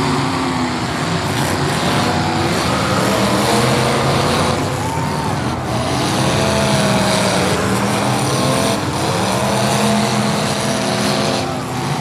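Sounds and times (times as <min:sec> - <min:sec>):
racing car engines revving: 0:00.0 - 0:12.0.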